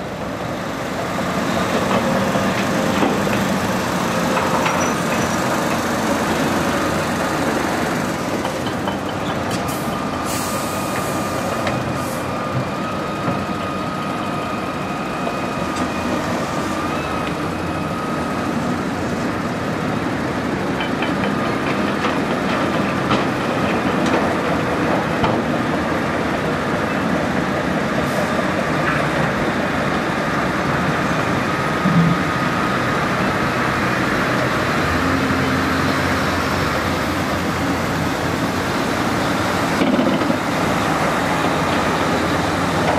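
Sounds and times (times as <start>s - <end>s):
dump truck diesel engines: 0.0s - 42.9s
excavator engine and hydraulics: 0.0s - 42.9s.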